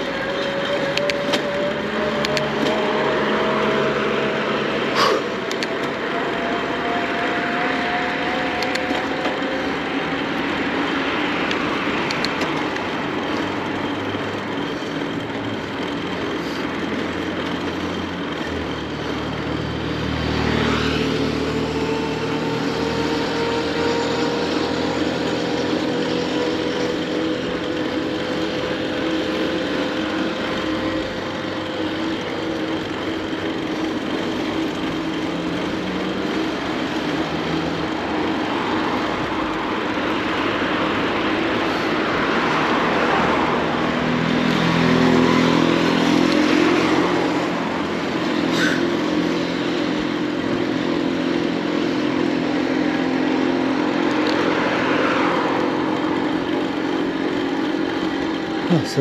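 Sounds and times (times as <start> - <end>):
steady traffic rushing noise: 0.0 - 59.0
vehicle engines running: 0.0 - 59.0.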